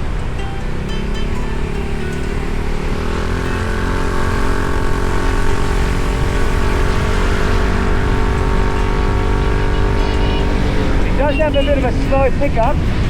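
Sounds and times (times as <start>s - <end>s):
heavy wind: 0.0s - 13.0s
road rumble: 0.0s - 13.0s
scooter engine running: 0.0s - 13.0s.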